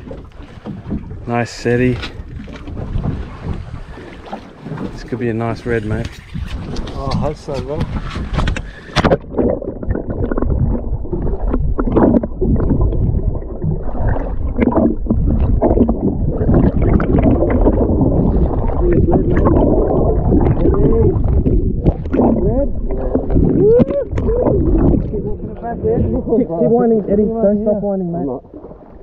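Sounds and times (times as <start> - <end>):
underwater water gurgling: 0.0 - 29.0.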